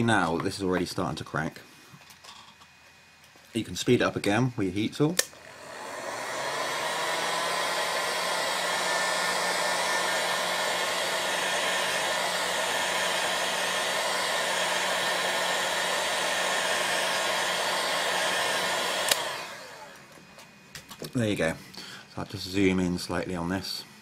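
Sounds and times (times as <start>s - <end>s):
heat tool blowing with motor hum: 0.0s - 24.0s.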